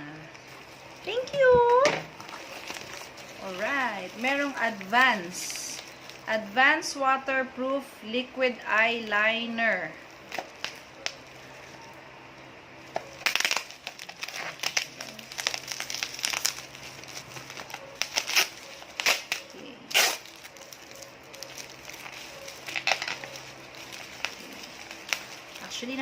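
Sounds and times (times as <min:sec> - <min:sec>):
packaging crinkling: 0:00.2 - 0:06.5, 0:10.0 - 0:11.9, 0:12.8 - 0:26.0.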